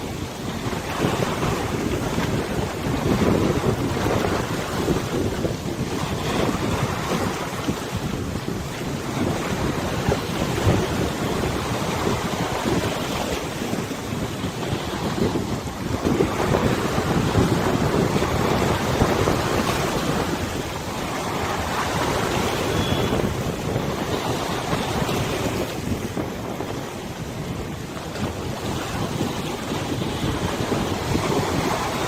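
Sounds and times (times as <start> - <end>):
river waves splashing: 0.0 - 32.0
wind buffeting microphone: 0.0 - 32.0.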